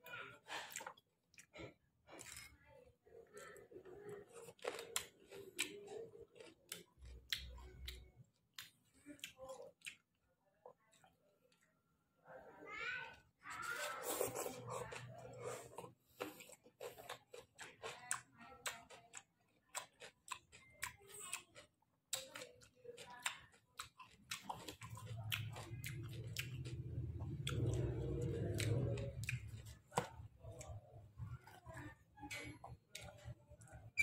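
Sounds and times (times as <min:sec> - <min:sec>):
person chewing with wet smacks: 0:00.2 - 0:11.7, 0:13.7 - 0:34.0.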